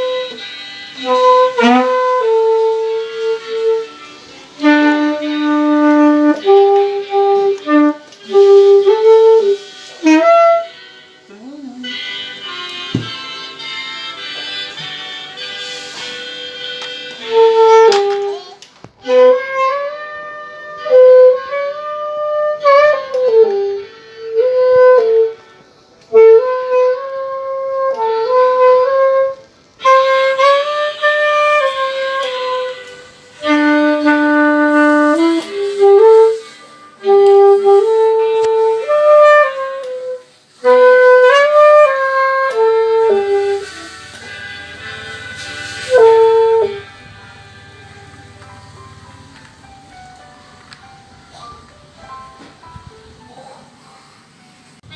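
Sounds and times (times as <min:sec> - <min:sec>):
saxophone melody: 0:00.0 - 0:53.6.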